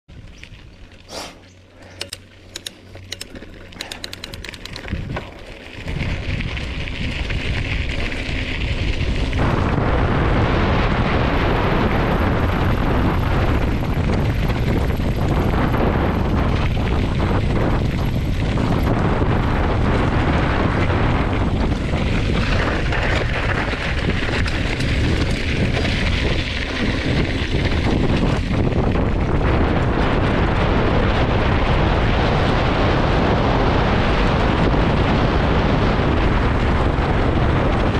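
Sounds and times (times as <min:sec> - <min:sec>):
bike clicks and rattles: 0:00.1 - 0:09.8, 0:11.8 - 0:37.9
tyres rumbling on dirt road: 0:00.1 - 0:37.9
wind buffeting microphone: 0:00.1 - 0:37.9.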